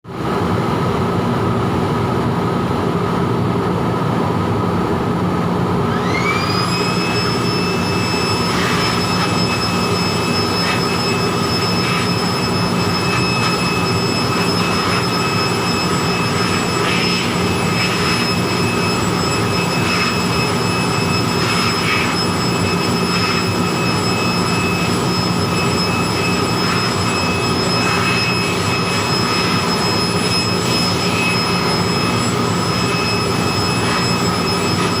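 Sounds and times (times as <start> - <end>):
high motor whine: 0.1 - 35.0
electric blower rushing air: 5.5 - 35.0.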